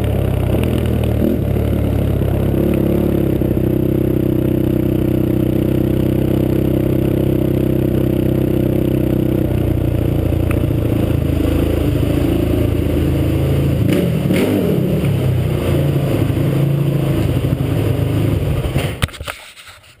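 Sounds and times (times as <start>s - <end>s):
quad bike engine running: 0.0s - 19.5s.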